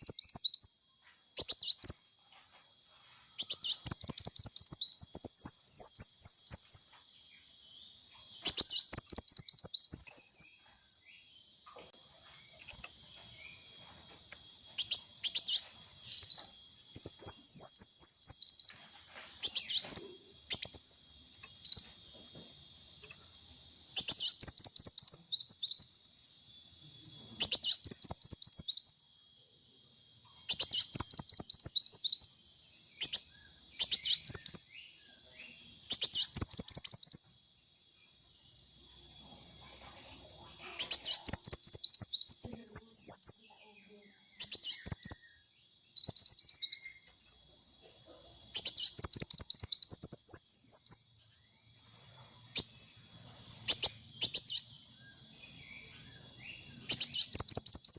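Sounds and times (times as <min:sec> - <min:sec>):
bird chirping trills: 0:00.0 - 0:00.8, 0:01.4 - 0:02.1, 0:02.9 - 0:22.2, 0:23.0 - 0:29.0, 0:30.2 - 0:37.4, 0:39.2 - 0:47.4, 0:48.0 - 0:57.9.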